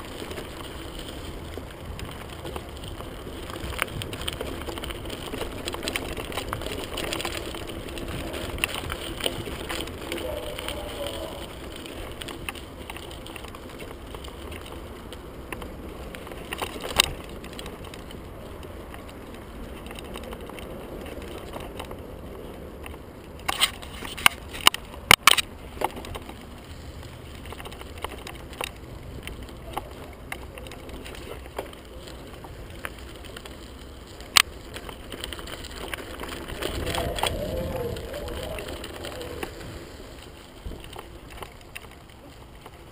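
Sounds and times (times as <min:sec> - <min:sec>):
bike rattling over bumps: 0:00.0 - 0:42.9
bike tyres rumbling on gravel: 0:00.0 - 0:42.9.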